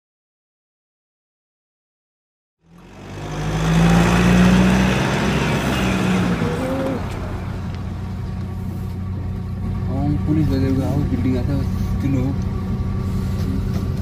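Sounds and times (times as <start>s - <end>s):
car engine: 2.6s - 14.0s
road noise inside car: 2.6s - 14.0s.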